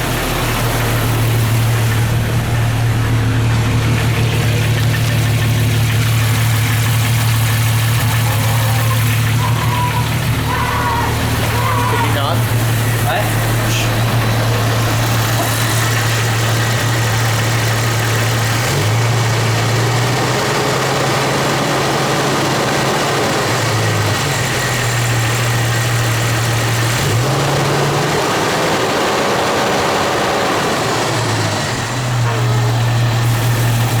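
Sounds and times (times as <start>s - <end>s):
car engine idling: 0.0s - 34.0s
engine knock: 0.0s - 34.0s.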